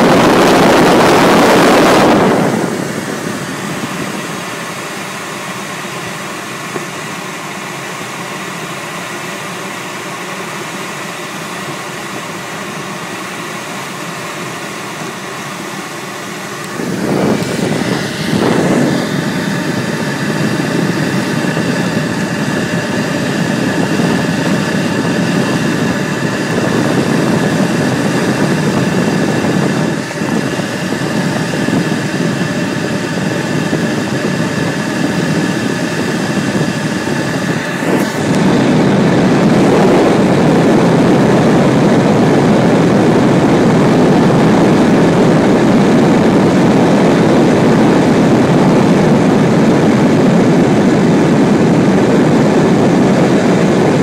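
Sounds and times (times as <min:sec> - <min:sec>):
rush of air over canopy: 0:00.0 - 0:54.0.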